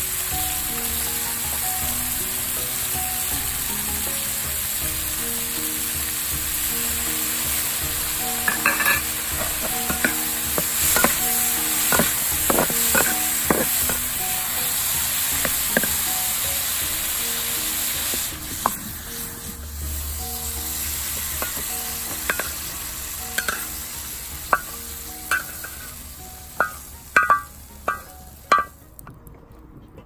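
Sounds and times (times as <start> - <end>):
food sizzling in a frying pan: 0.0 - 28.8.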